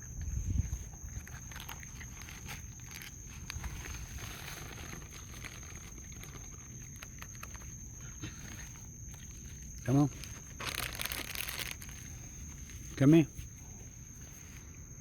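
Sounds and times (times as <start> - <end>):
raccoons crunching food: 0.0 - 13.0.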